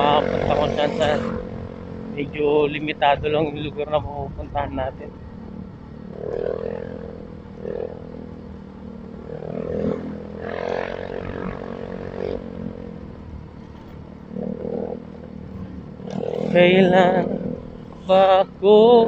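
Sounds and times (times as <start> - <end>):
motorcycle engine drone: 0.0 - 19.0
road and wind noise: 0.0 - 19.0.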